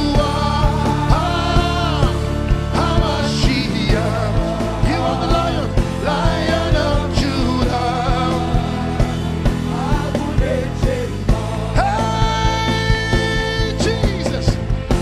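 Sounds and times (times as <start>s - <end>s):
voices singing: 0.0s - 13.9s
steady drum beat: 0.0s - 15.0s
sustained keyboard chords: 0.0s - 15.0s.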